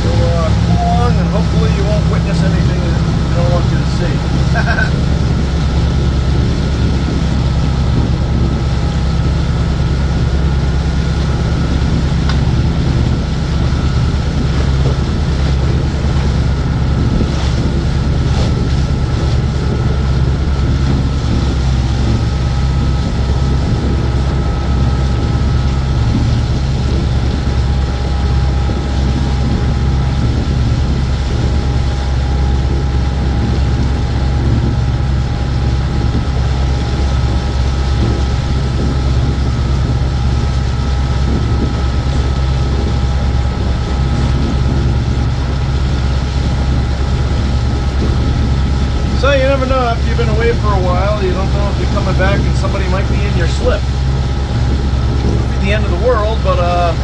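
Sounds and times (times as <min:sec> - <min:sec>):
boat diesel engine droning: 0:00.0 - 0:57.0.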